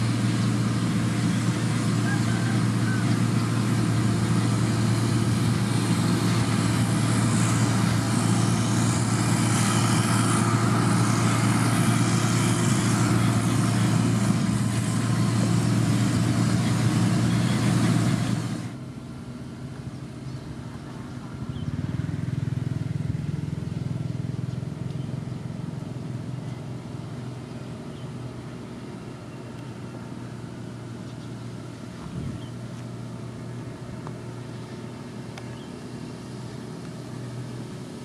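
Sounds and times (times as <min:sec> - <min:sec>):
diesel engine running steadily: 0:00.0 - 0:38.0.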